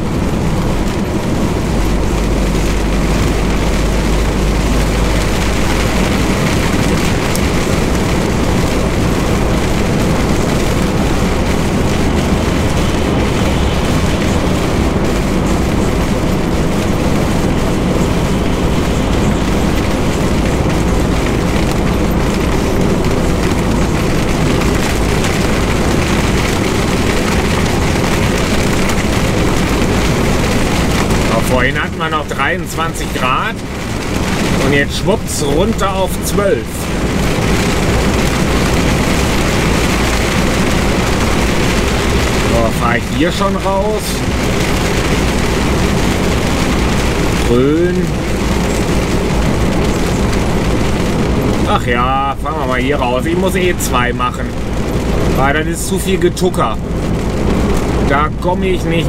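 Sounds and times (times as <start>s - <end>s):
diesel engine rumble: 0.0s - 59.0s
rain on windscreen: 0.0s - 59.0s
tyres on wet road: 0.0s - 59.0s
windscreen wipers sweeping: 0.0s - 59.0s.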